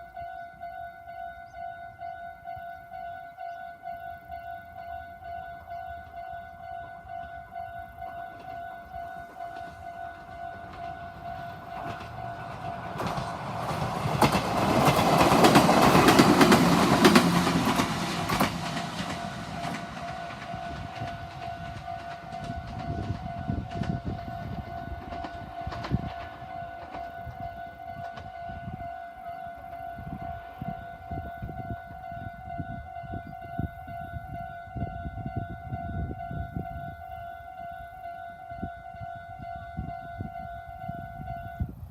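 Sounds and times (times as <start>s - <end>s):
level crossing warning alarm: 0.0s - 41.8s
train passing: 0.0s - 41.9s.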